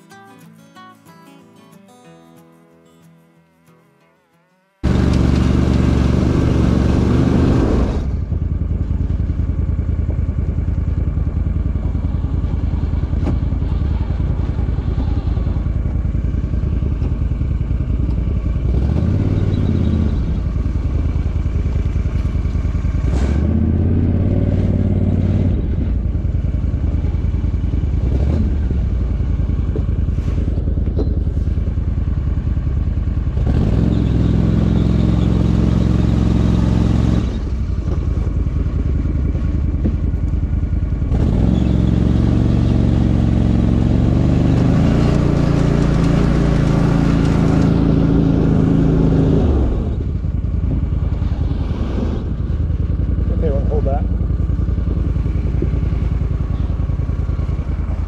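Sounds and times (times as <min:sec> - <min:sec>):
atv engine running: 0:04.8 - 0:58.0.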